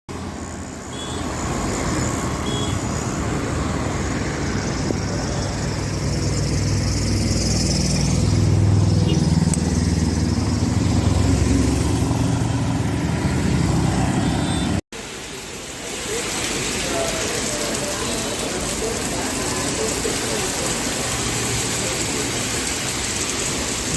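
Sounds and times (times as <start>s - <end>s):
road traffic noise: 0.1s - 23.9s.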